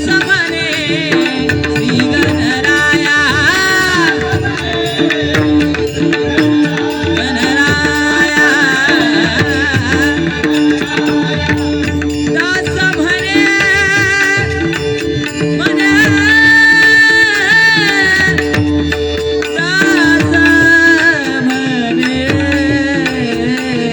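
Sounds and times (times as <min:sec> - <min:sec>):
hand drumming: 0:00.0 - 0:21.3.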